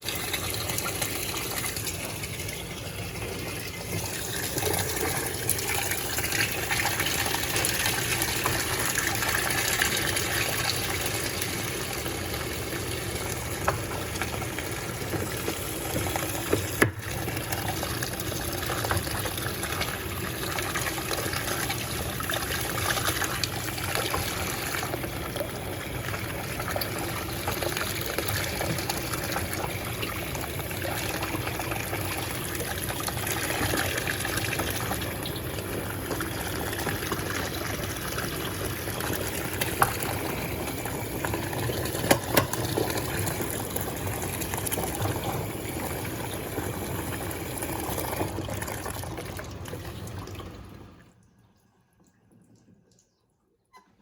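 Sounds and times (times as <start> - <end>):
water gushing into washing machine: 0.0 - 54.0.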